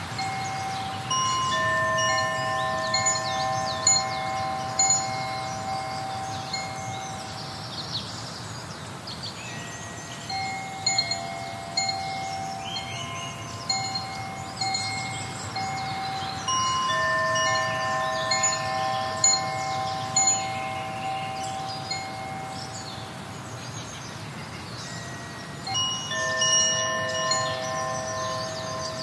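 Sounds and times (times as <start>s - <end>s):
wind chimes ringing: 0.0s - 8.2s, 8.9s - 29.0s.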